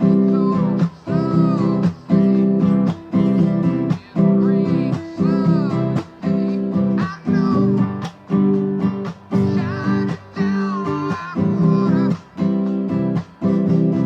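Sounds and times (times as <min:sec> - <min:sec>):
acoustic guitar strumming chords: 0:00.0 - 0:14.0
bending guitar melody: 0:00.0 - 0:14.0.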